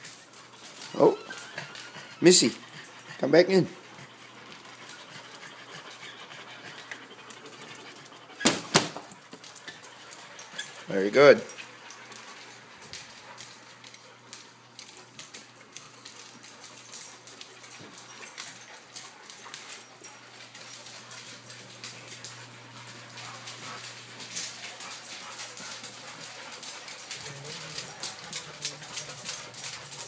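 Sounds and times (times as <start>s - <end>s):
dog claws clicking on floor: 3.8s - 30.0s.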